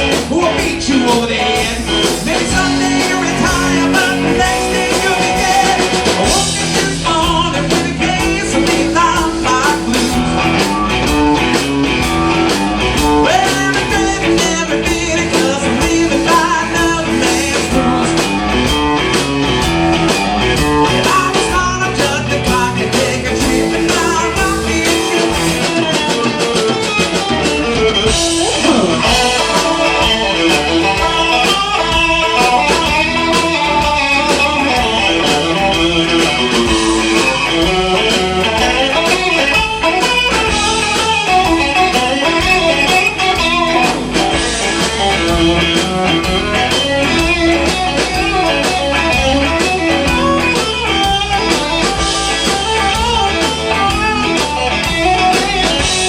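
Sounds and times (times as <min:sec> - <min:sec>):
blues band with electric guitar: 0:00.0 - 0:56.0.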